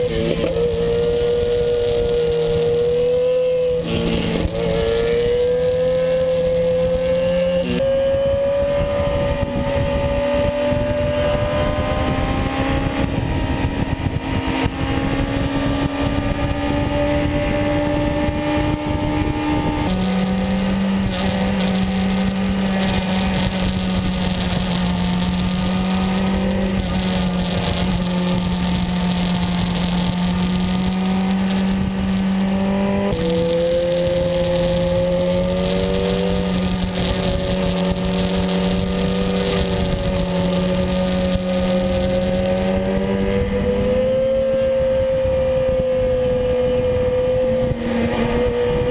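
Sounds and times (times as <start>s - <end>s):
motorcycle engine at speed: 0.0s - 48.9s.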